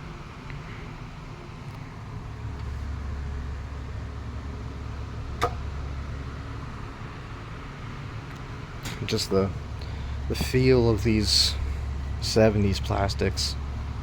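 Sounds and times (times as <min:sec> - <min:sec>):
table fan humming: 0:00.0 - 0:14.0.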